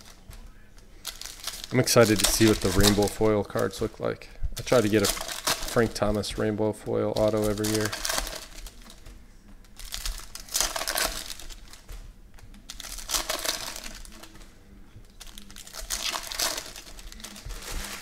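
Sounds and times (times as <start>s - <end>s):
foil wrappers crinkling: 0.0s - 18.0s.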